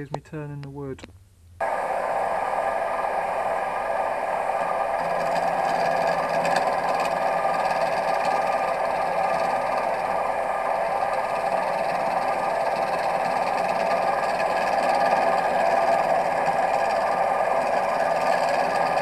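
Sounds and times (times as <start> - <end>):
lathe motor whining: 1.6 - 19.0.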